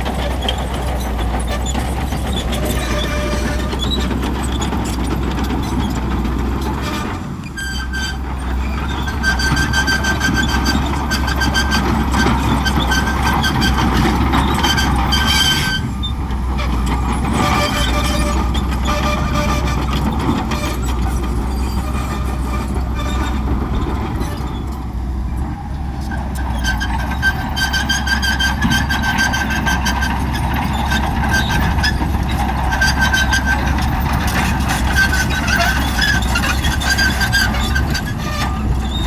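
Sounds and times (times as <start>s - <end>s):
bulldozer diesel engine running: 0.0s - 39.0s
high-pitched metallic squeal: 0.2s - 6.0s, 6.6s - 23.6s, 26.0s - 39.0s.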